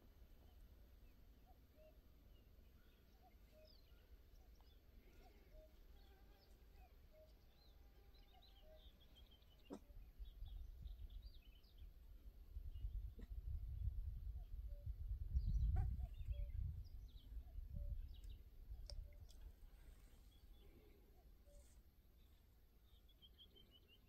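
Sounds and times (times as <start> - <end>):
faint birdsong chirps: 0.0 - 24.0.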